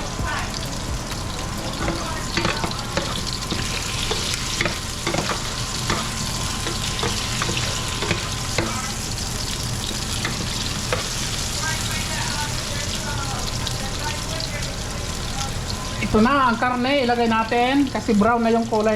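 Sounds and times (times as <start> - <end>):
garlic and onions sizzling in oil: 0.0 - 18.9.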